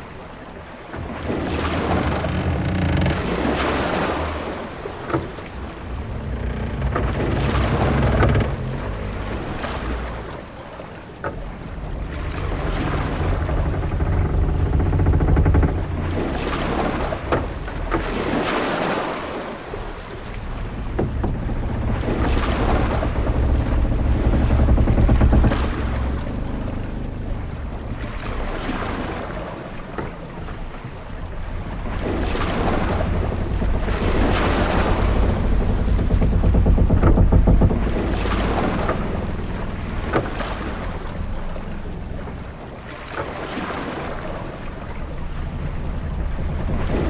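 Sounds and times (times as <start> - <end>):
waves washing against hull: 0.0 - 47.0
wind: 0.0 - 47.0
short knocks: 1.0 - 43.4, 44.1 - 47.0
deep rumble: 1.0 - 47.0.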